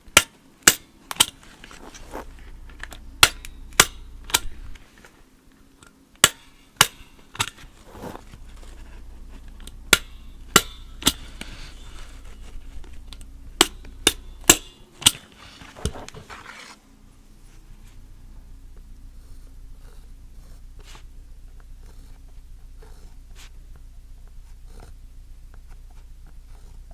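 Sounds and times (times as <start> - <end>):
faint rustling: 1.3 - 13.4, 15.2 - 26.9.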